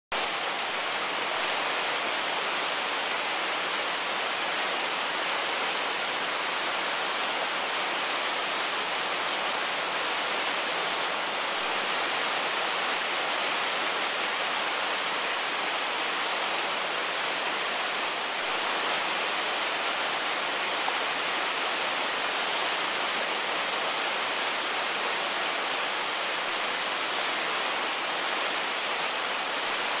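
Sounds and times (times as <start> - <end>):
white-water rapids rushing: 0.2 - 30.0.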